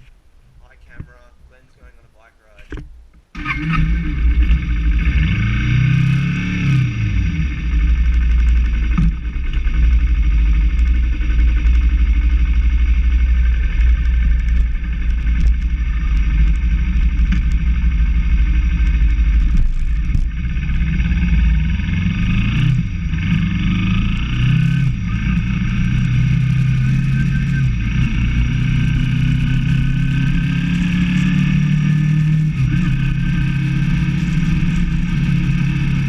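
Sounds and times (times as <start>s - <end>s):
motorcycle engine running: 3.4s - 36.0s.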